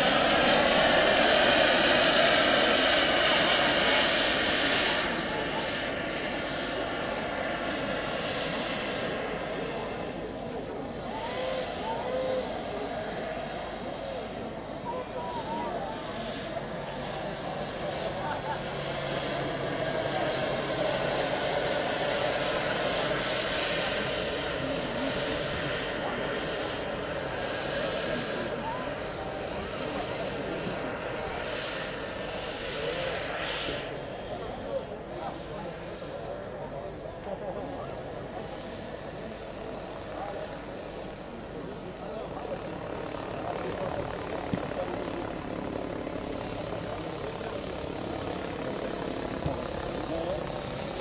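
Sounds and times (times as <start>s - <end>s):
model helicopter turbine whine: 0.0s - 51.0s.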